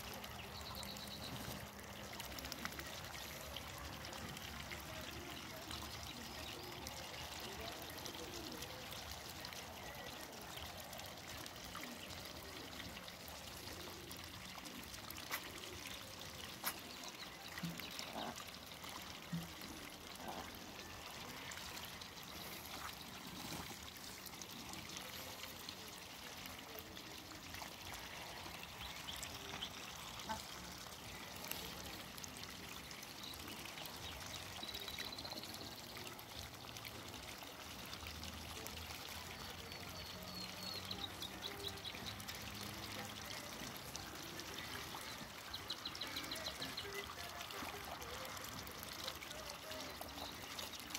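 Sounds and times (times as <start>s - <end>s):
ducks splashing and bill clicks: 0.0s - 50.9s
water trickling: 0.0s - 50.9s.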